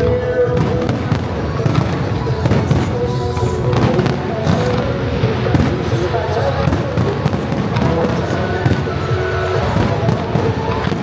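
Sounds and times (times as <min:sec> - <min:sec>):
fireworks bursting: 0:00.0 - 0:11.0
music playing: 0:00.0 - 0:11.0.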